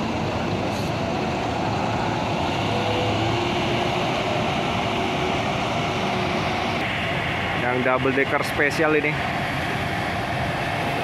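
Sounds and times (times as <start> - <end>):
diesel bus engine humming: 0.0 - 11.0
faint steady whine: 0.0 - 11.0.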